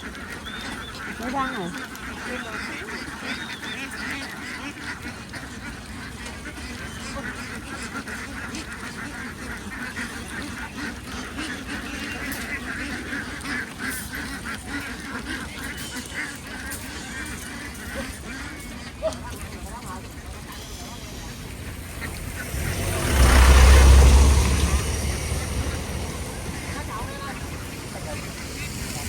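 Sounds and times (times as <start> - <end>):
flock of ducks quacking: 0.0 - 29.0.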